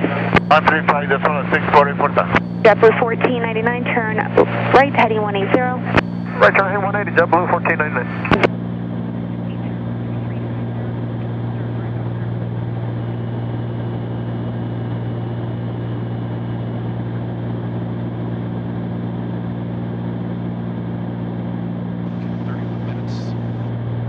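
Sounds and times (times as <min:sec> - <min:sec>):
airplane engines droning: 0:00.0 - 0:24.0.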